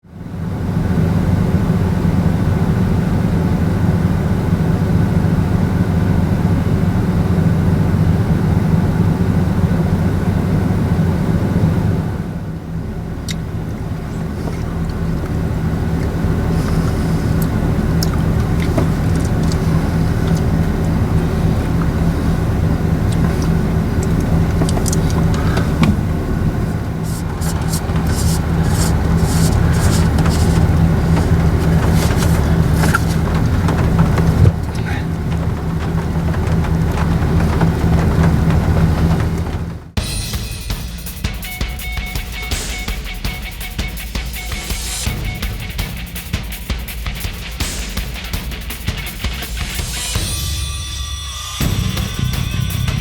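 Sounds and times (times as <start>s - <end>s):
car engine and road noise: 0.0s - 50.6s, 51.2s - 53.0s.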